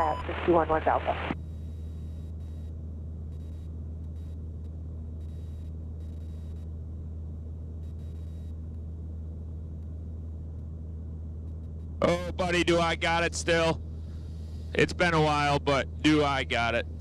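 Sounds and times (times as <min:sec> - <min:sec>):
aircraft engine droning in cabin: 0:00.0 - 0:17.0.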